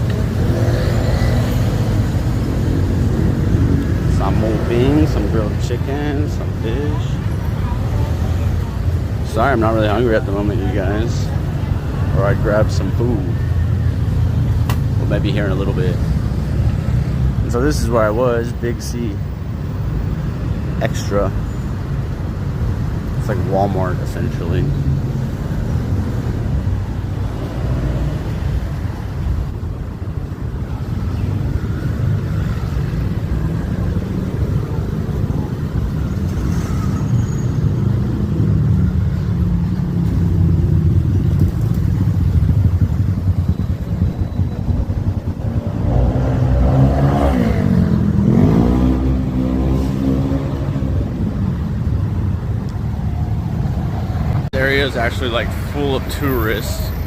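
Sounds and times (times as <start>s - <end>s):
car and motorbike engines: 0.0s - 57.0s.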